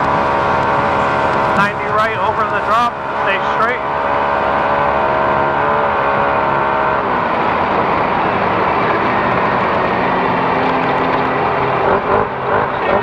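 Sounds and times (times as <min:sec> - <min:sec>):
race car engine running hard: 0:00.0 - 0:13.0
rough rumble over rough ground: 0:00.0 - 0:13.0.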